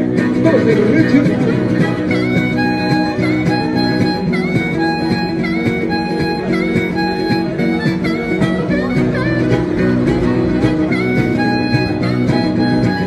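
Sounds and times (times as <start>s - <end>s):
rock band backing: 0.0s - 13.0s
harmonica solo: 1.1s - 13.0s.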